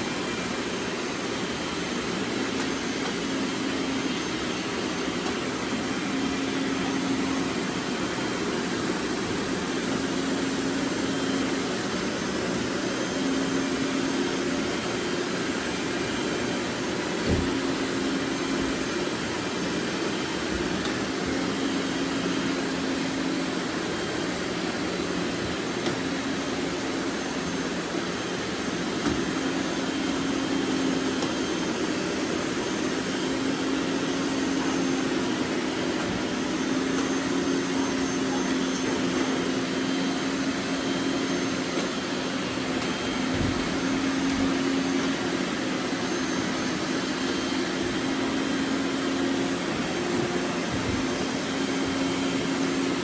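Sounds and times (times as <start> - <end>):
robot vacuums whirring: 0.0 - 53.0.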